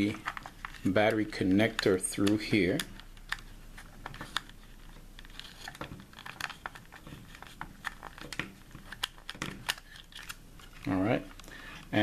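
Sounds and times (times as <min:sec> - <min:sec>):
plastic case clicking and rubbing: 0:00.0 - 0:11.9.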